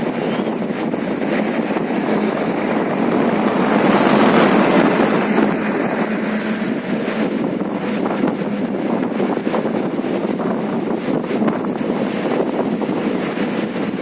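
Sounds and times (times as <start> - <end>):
traffic noise: 0.0 - 14.0
wind on microphone: 0.0 - 14.0.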